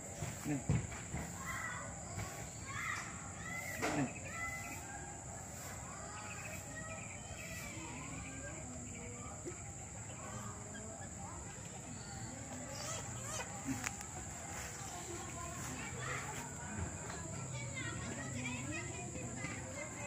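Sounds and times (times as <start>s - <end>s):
small birds chirping: 0.0s - 20.0s
high insect drone: 0.2s - 20.0s.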